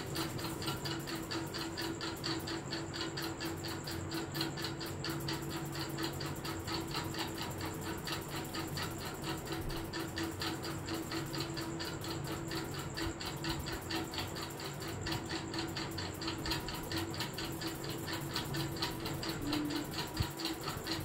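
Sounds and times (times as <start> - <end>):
rapid even ticking: 0.0 - 21.0
steady low hum: 0.0 - 21.0.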